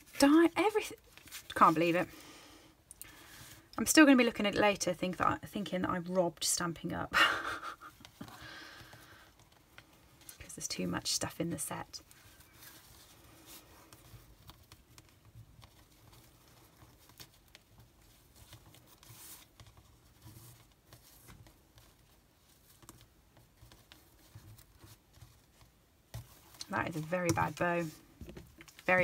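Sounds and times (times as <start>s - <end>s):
ribbon and card rustling: 0.0s - 2.2s, 7.7s - 29.0s.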